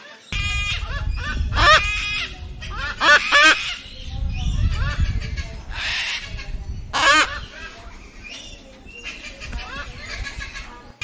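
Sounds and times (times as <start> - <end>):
cockatoo squawking: 0.4 - 11.0.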